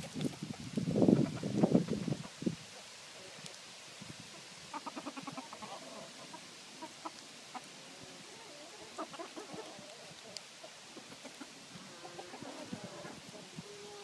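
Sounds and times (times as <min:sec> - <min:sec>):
chickens clucking: 0:00.0 - 0:03.5, 0:04.3 - 0:14.0.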